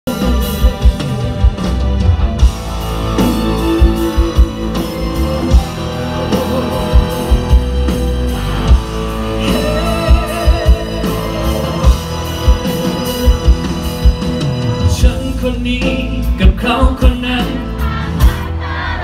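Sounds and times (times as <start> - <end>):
live rock band playing: 0.1 - 19.0.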